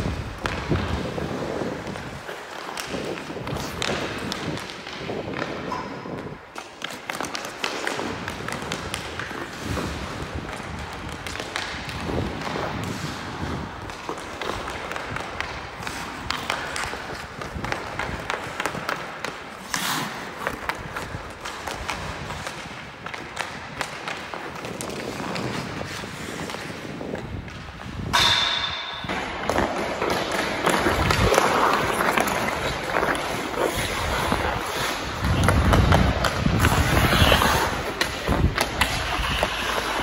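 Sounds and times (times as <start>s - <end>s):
skate blades scraping ice: 0.0s - 28.1s, 29.0s - 40.0s.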